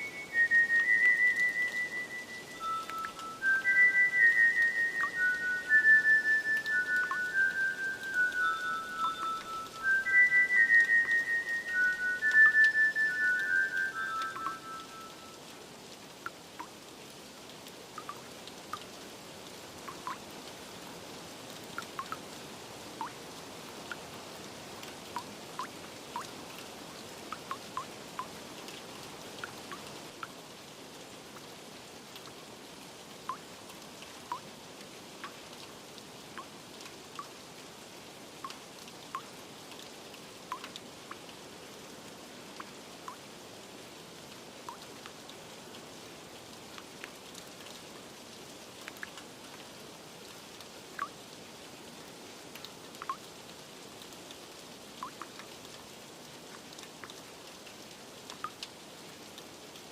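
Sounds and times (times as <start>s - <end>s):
raindrops plinking: 0.0s - 16.8s, 17.6s - 19.0s, 19.8s - 20.5s, 21.6s - 22.3s, 22.9s - 30.4s, 33.2s - 37.4s, 38.3s - 41.4s, 42.1s - 43.3s, 44.4s - 51.3s, 52.1s - 59.9s
steady rain hiss: 0.0s - 59.9s.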